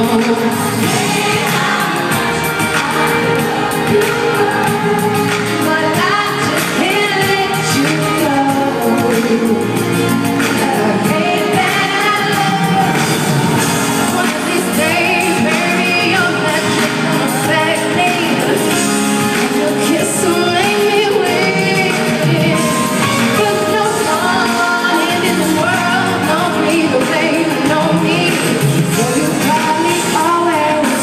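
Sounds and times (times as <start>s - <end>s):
live band playing: 0.0s - 31.0s
woman singing lead vocal: 0.0s - 31.0s.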